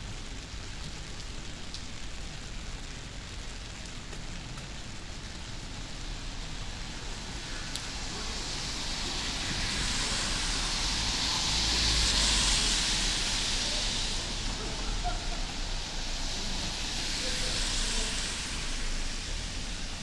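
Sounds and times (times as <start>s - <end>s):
car tyres hissing on wet road: 0.0s - 20.0s
light rain: 0.0s - 20.0s.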